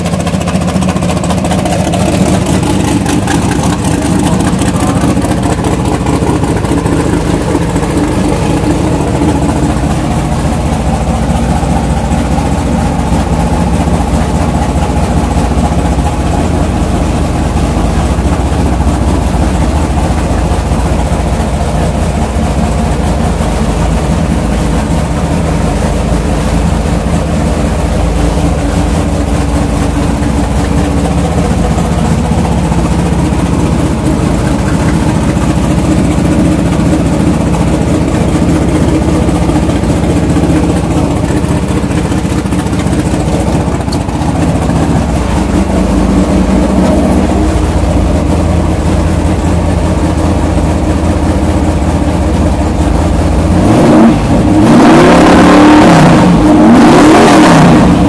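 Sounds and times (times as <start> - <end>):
loud engine idling: 0.0 - 58.0.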